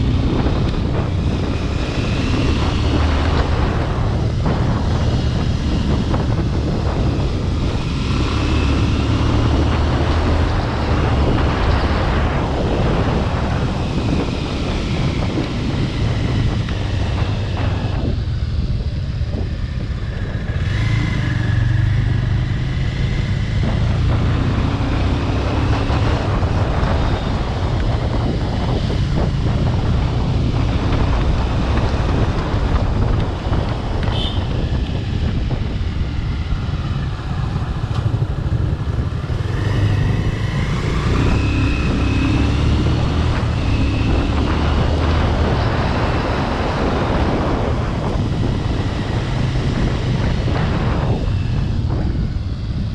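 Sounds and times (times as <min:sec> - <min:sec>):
motorcycle engine running: 0:00.0 - 0:52.9
wind on microphone: 0:00.0 - 0:52.9.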